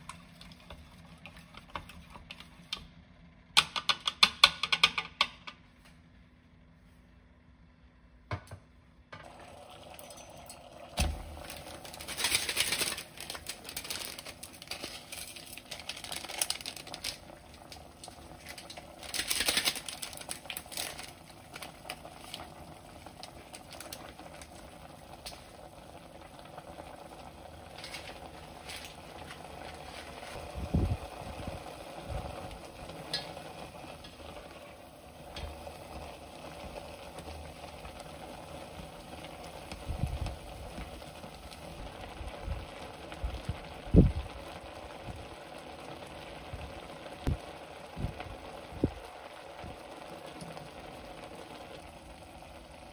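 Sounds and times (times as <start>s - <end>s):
water boiling in a pot: 0.0s - 5.4s, 9.1s - 52.9s.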